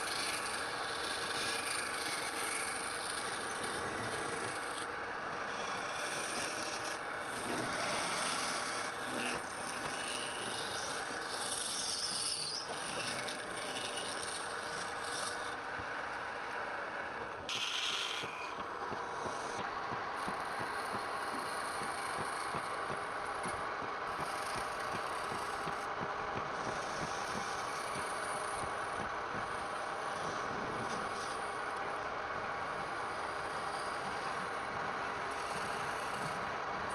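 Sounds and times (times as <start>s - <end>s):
lathe hum: 0.0s - 36.9s
wood rasping on a lathe: 0.0s - 36.9s.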